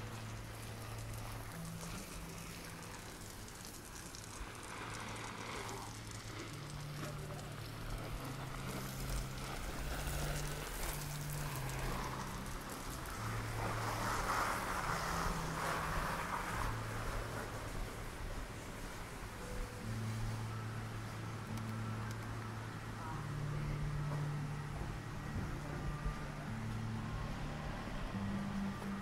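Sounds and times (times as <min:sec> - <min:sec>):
low hum stepping between pitches: 0:00.0 - 0:29.0
street ambience: 0:00.0 - 0:29.0.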